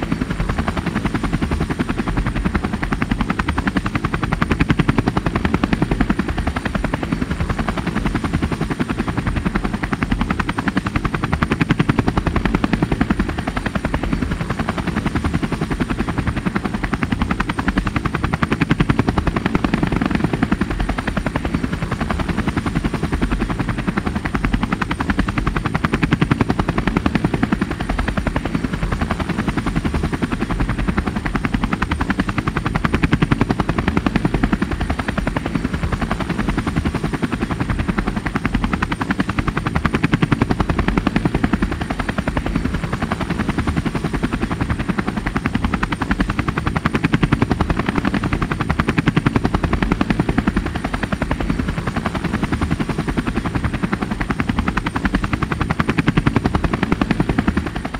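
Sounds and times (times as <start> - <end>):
small rotor aircraft propellers: 0.0 - 57.9.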